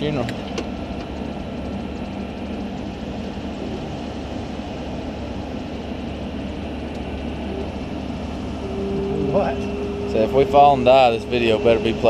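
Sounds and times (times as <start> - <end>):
engine and hydraulic drone: 0.0 - 12.0.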